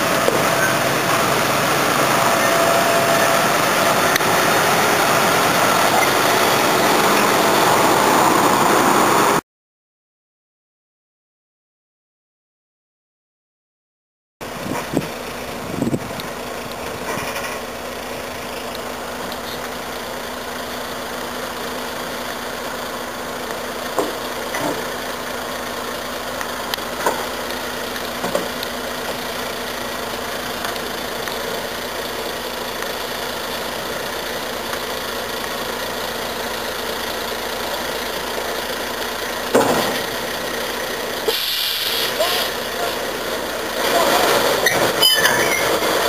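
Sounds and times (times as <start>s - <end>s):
diesel truck engine running: 0.0s - 9.4s, 14.4s - 46.0s.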